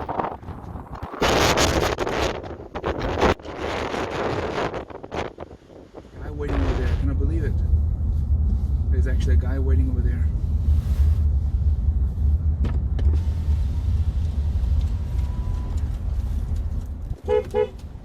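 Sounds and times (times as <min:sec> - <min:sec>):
car rumble from inside cabin: 0:03.1 - 0:18.0.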